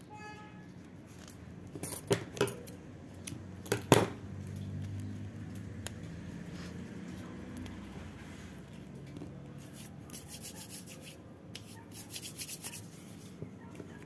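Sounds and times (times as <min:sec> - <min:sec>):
ribbon handling: 0:00.9 - 0:13.4.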